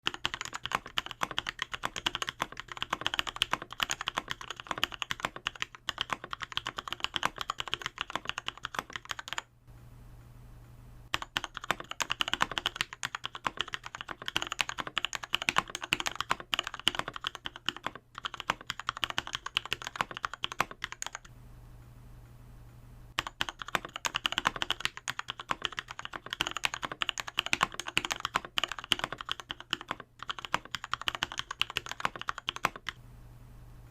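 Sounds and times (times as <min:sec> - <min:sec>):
fast typing on mechanical keyboard: 0:00.0 - 0:09.4, 0:11.1 - 0:21.3, 0:23.2 - 0:33.0.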